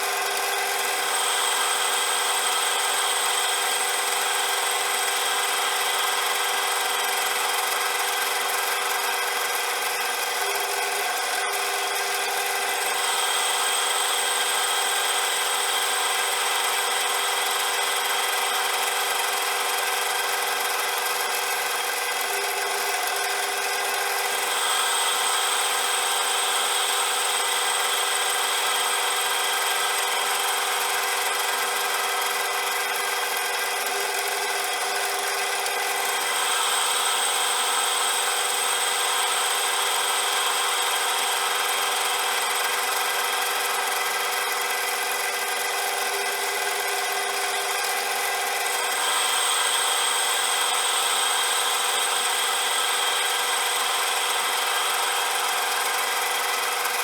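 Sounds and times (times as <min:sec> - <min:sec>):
metal lathe whining: 0:00.1 - 0:57.0.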